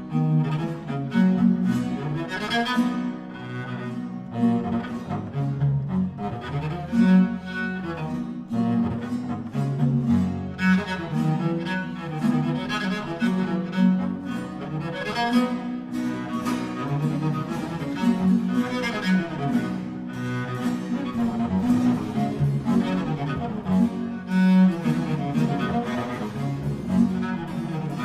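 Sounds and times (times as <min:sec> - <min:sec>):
solo cello: 0:00.0 - 0:28.0
string accompaniment: 0:00.0 - 0:28.0.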